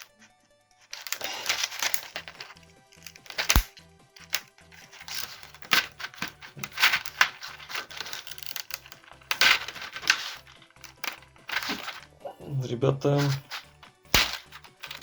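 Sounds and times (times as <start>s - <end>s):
plastic packaging crinkling and tearing: 0.9s - 12.1s, 13.2s - 15.0s.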